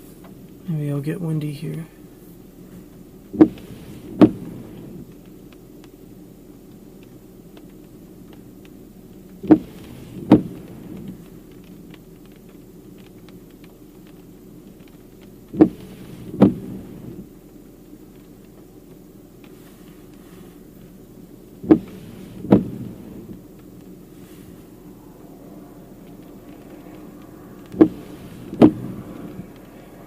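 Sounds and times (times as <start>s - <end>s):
vehicle low hum: 0.0s - 30.0s
windshield wipers thumping: 2.5s - 30.0s.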